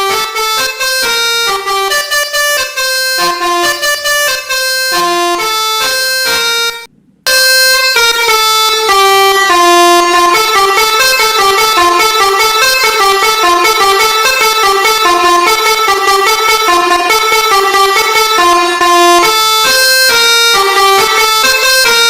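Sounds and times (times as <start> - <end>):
bus melody horn: 0.0 - 22.0.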